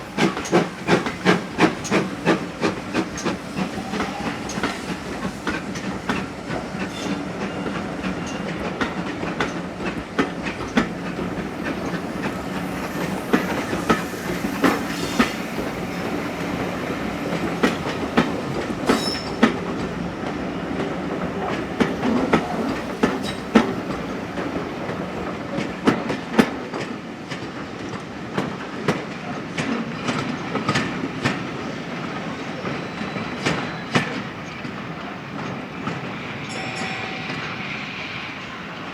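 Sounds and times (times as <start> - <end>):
train wheels clicking over rail joints: 0.0 - 37.6
train rumble: 0.0 - 38.9.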